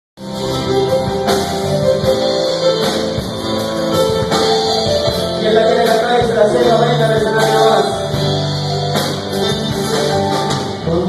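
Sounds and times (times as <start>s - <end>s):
instrumental band music: 0.2s - 11.0s.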